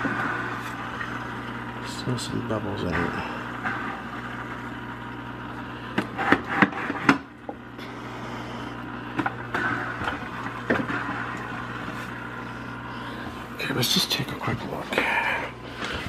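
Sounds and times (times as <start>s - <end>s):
filter humming: 0.0s - 16.0s.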